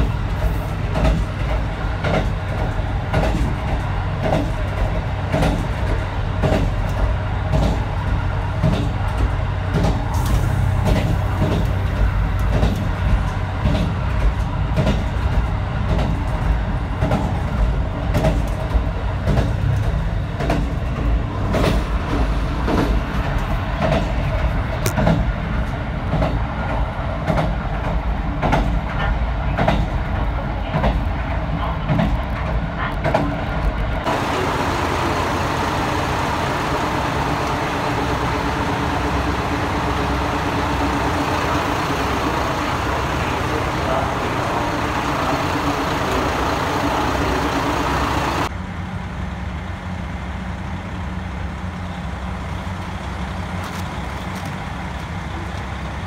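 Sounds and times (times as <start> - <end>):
wheels clicking over rail joints: 0.0 - 48.5
railcar engine hum: 0.0 - 56.0.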